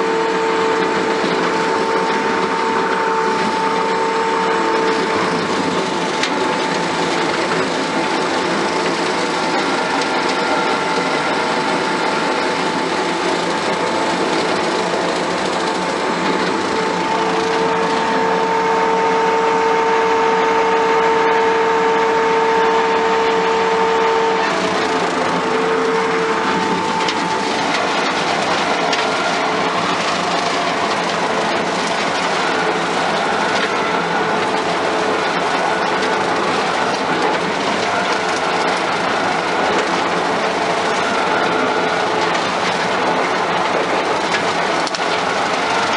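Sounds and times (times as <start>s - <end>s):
skid steer mower running: 0.0s - 45.9s.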